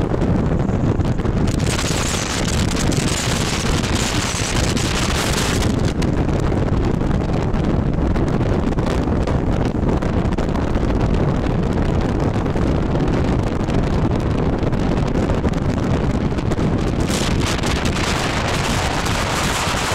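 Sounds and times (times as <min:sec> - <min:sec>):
road rumble: 0:00.0 - 0:19.9
wind buffeting microphone: 0:00.0 - 0:19.9.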